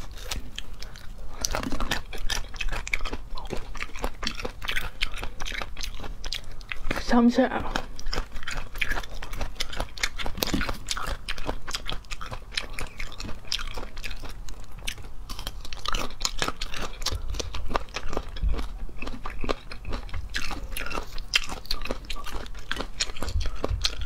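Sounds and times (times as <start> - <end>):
chewing crunchy fruit: 0.0 - 24.0.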